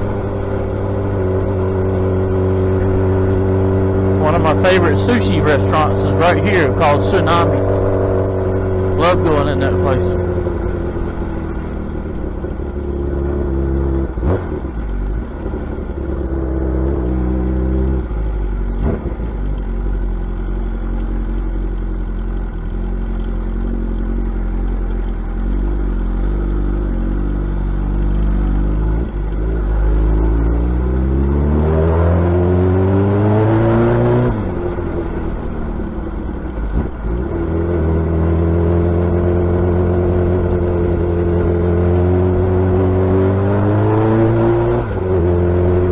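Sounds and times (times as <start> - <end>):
motorcycle engine cruising and revving: 0.0 - 45.9.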